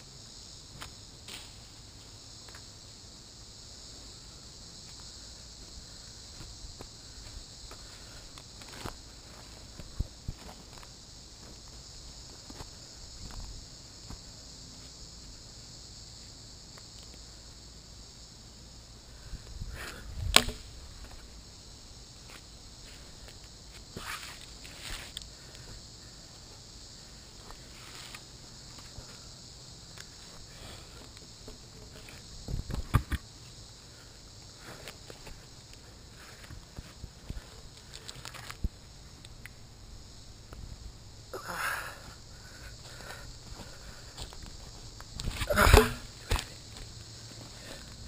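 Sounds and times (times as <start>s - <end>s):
insect drone: 0.0s - 48.0s.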